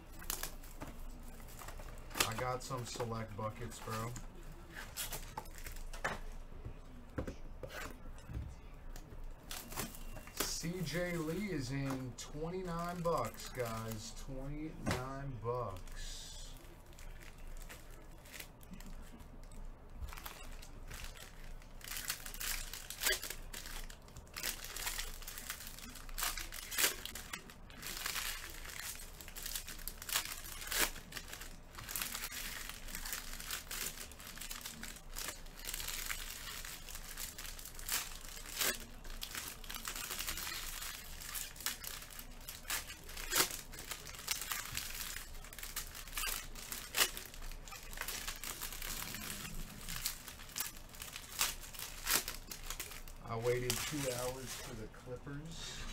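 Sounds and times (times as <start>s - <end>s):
plastic wrappers crinkling and tearing: 0.0s - 7.1s, 7.7s - 55.9s.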